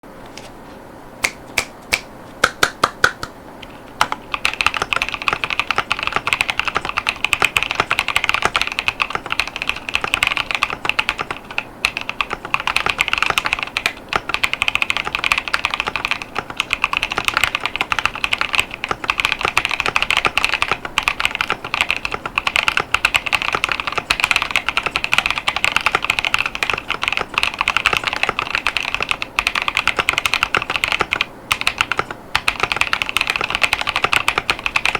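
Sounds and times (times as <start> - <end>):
mechanical keyboard typing: 4.0 - 34.9.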